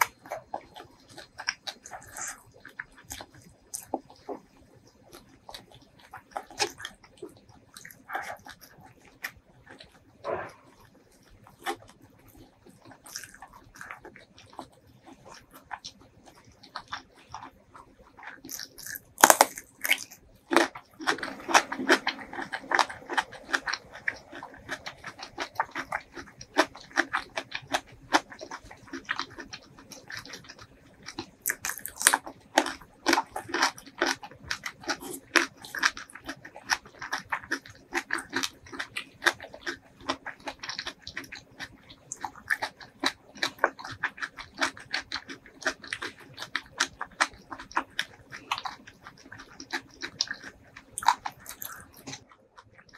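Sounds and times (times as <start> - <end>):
crunchy chewing: 0.0 - 52.9.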